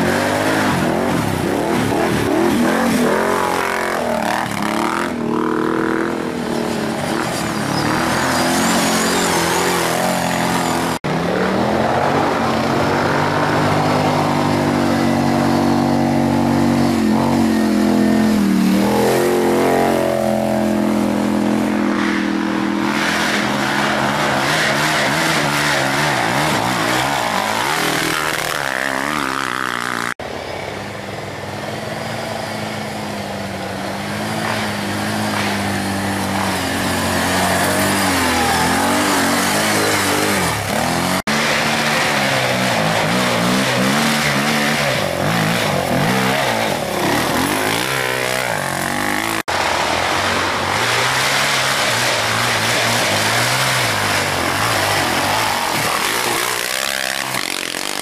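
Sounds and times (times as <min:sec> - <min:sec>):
quad bike engines revving: 0:00.0 - 0:58.0.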